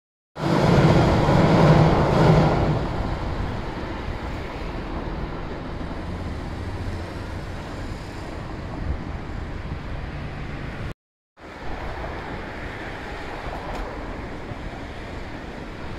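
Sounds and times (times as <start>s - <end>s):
background traffic: 0.4s - 15.9s
electric train rumbling away: 0.4s - 15.9s.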